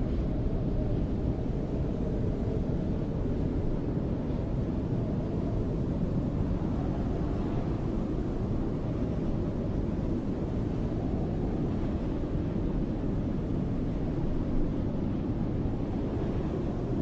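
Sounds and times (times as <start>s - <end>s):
snowstorm wind rushing: 0.0s - 17.0s.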